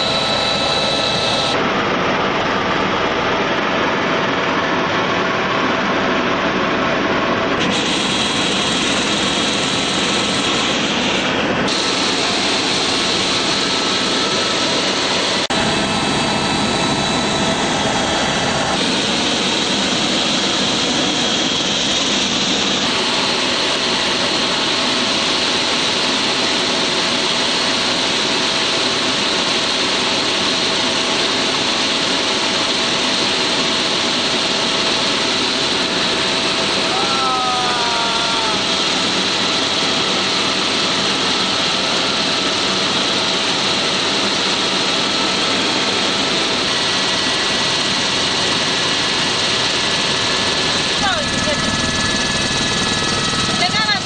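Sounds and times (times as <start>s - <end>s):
helicopter turbine and rotor noise: 0.0s - 54.0s.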